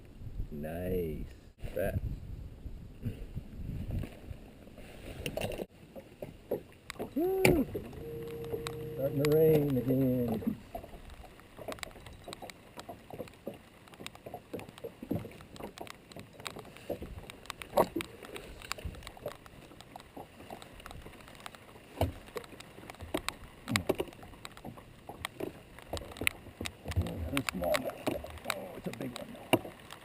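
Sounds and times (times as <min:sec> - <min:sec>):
water: 0:00.0 - 0:30.0
wind: 0:00.0 - 0:30.0.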